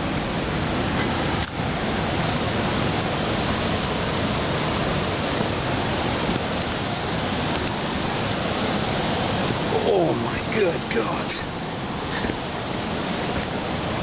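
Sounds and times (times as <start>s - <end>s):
water rushing over a dam: 0.0s - 14.0s.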